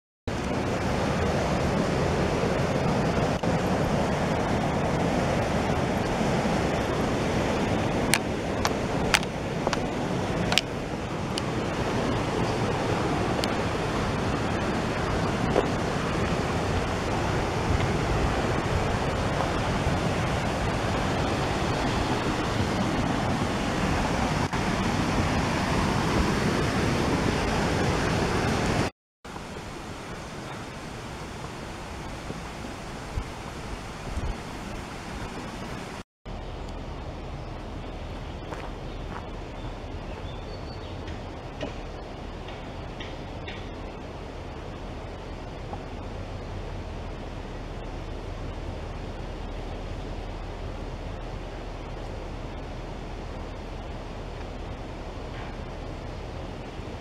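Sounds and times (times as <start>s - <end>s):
river water over rapids: 0.3s - 57.0s.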